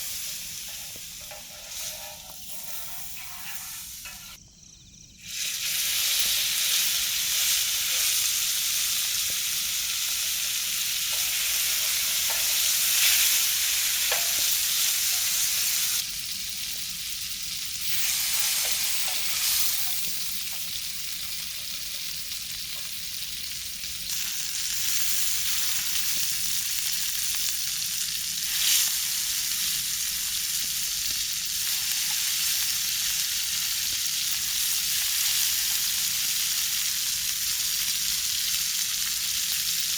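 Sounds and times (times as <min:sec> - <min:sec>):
food sizzling in a pan: 0:00.0 - 0:04.4, 0:05.2 - 0:39.9.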